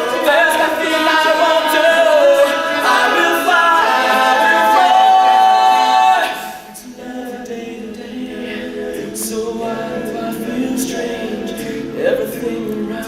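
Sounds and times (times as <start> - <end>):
a cappella group singing chords: 0.0 - 13.0.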